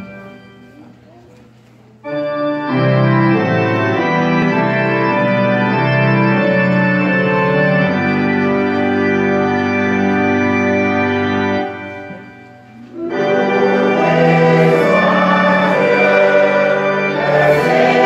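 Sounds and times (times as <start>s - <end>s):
organ chords on keyboard: 0.0s - 0.9s, 2.0s - 18.0s.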